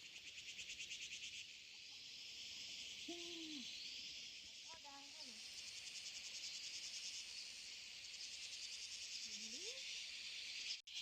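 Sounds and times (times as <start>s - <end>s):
pulsing insect chorus: 0.0s - 11.0s.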